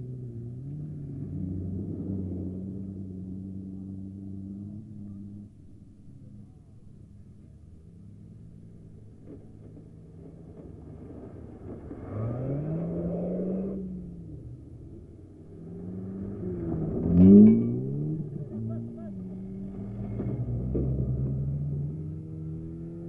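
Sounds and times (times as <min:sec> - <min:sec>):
race car engines revving past: 0:00.0 - 0:23.0.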